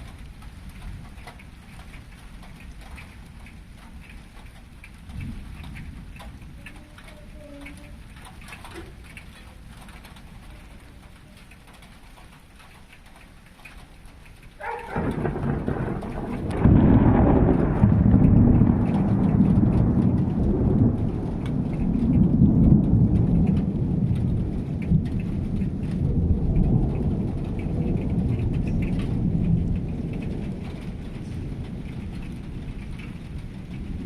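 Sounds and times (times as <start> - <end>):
rain falling: 0.0 - 34.0
thunder crack and rumble: 0.0 - 34.0.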